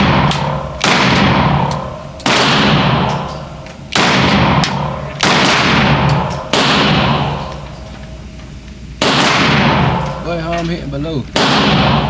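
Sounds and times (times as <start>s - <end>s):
pistol shots echoing: 0.0s - 8.2s, 9.0s - 10.3s, 11.4s - 12.0s.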